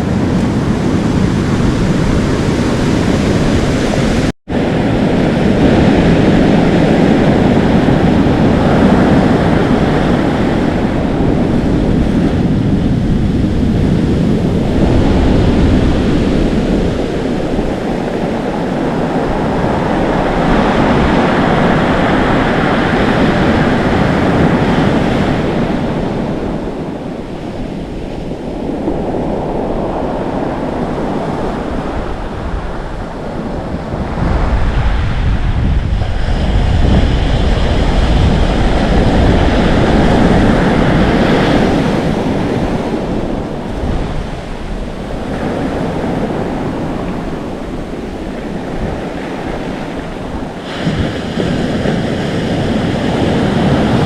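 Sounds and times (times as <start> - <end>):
ocean waves breaking: 0.0 - 54.0
wind blowing: 0.0 - 54.0.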